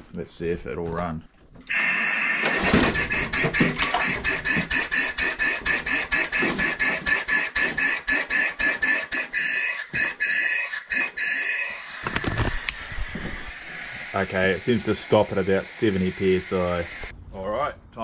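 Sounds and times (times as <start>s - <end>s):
air-powered engine exhaust puffs: 1.7s - 17.1s.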